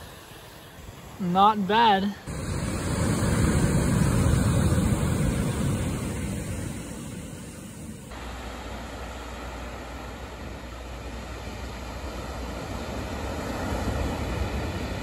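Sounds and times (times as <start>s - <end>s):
surf washing up pebbly beach: 0.0s - 15.0s.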